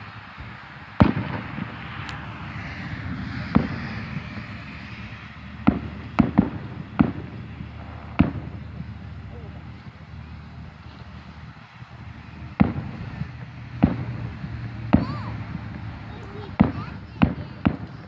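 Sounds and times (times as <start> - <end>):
fireworks bangs: 0.0 - 18.0
steady background hiss: 0.0 - 18.0.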